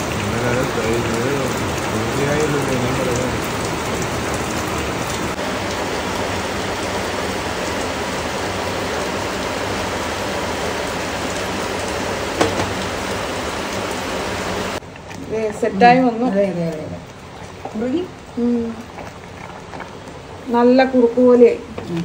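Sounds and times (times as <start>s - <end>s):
heavy rain on tiles and foliage: 0.0s - 18.8s.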